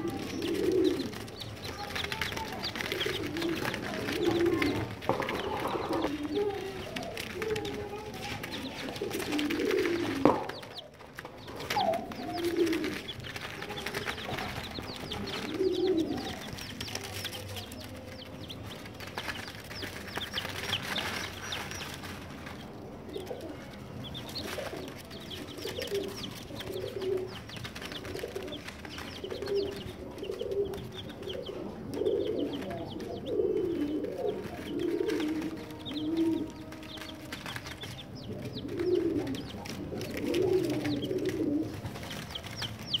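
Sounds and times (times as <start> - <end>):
chicks peeping: 0.0 - 43.0.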